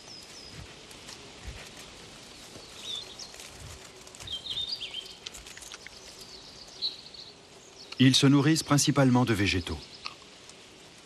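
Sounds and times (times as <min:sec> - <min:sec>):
faint background hiss: 0:00.0 - 0:11.0
small birds chirping: 0:00.0 - 0:11.0.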